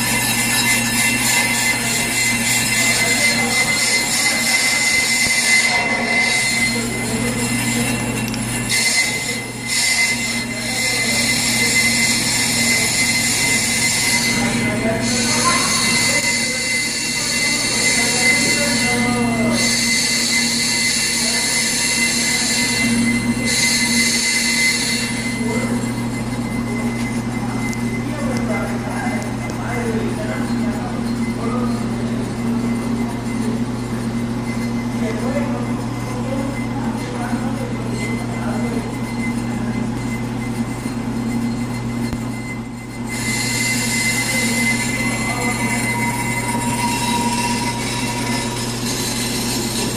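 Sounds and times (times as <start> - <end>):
high metallic cutting screech: 0.0 - 49.9
lathe motor hum: 0.0 - 49.9.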